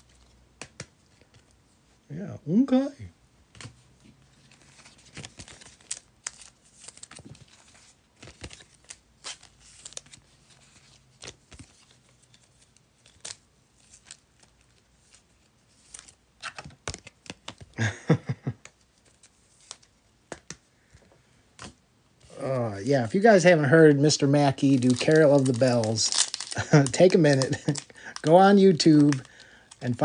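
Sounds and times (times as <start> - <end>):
cards and packs handled: 3.5 - 17.8, 18.5 - 30.0.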